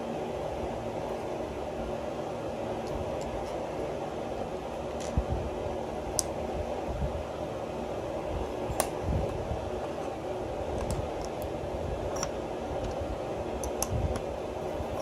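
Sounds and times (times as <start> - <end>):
steady fan noise: 0.0 - 15.0.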